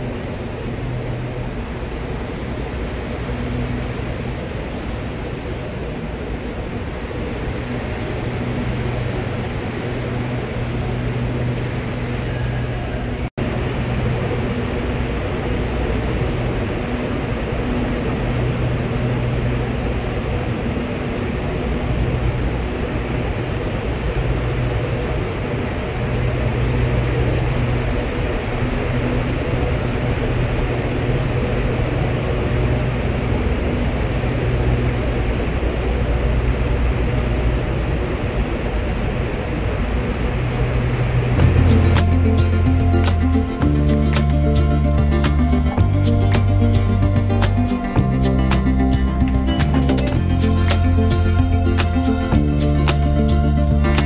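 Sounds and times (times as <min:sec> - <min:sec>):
train rumbling with a hum: 0:00.0 - 0:54.0.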